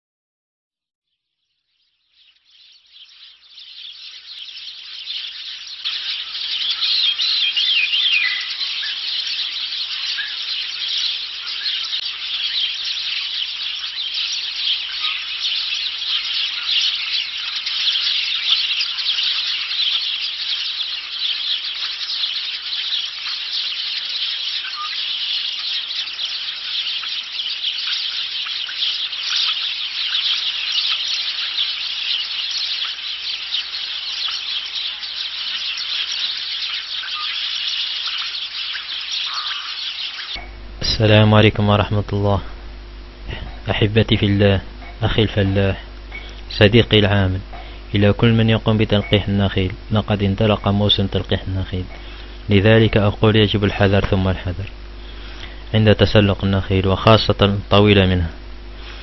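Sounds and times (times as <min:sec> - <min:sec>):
small birds chirping: 0:01.1 - 0:59.0.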